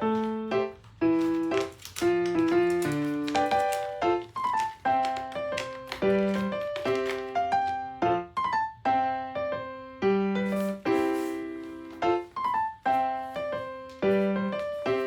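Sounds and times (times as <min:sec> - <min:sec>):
light keyboard tune: 0:00.0 - 0:15.0.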